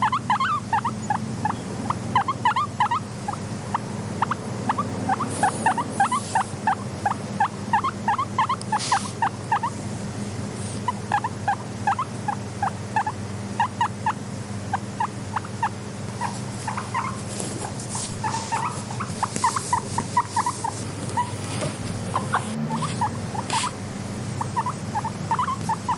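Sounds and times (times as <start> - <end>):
guinea pigs squeaking: 0.0 - 9.8, 10.6 - 25.9.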